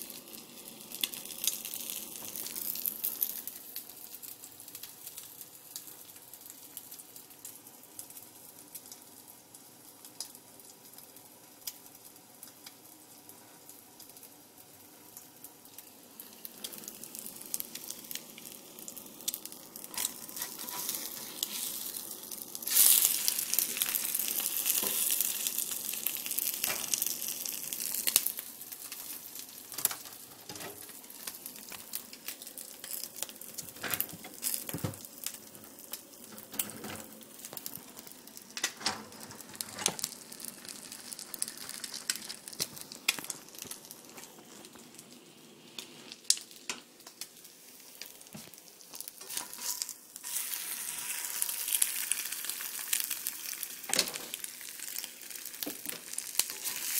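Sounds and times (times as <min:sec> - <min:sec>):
egg sizzling in hot oil: 0:00.0 - 0:56.9.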